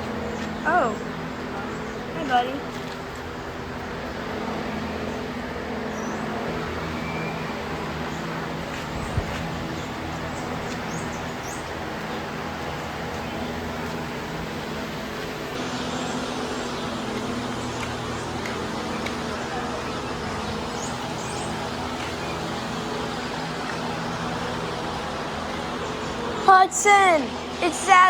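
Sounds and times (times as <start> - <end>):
small birds chirping: 0.0 - 3.6, 4.9 - 28.0
low hum: 0.0 - 28.0.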